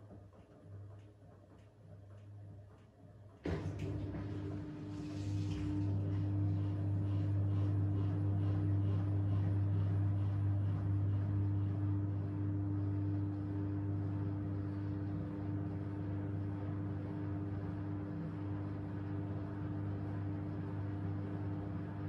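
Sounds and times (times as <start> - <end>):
washing machine spinning hum: 0.0 - 22.0.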